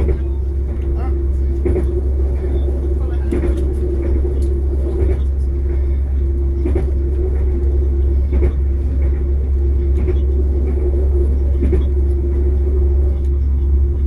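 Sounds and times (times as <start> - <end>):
train rumble inside carriage: 0.0 - 14.0
wheels clicking on track: 0.0 - 14.0.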